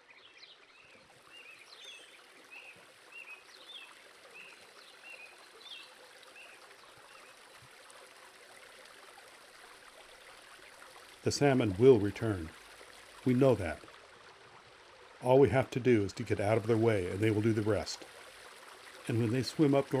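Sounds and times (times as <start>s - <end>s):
flowing creek water: 0.0s - 20.0s.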